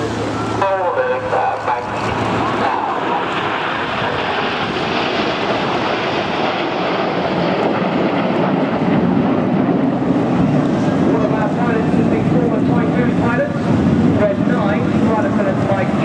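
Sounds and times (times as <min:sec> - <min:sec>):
aircraft engine flying past: 0:00.0 - 0:16.0.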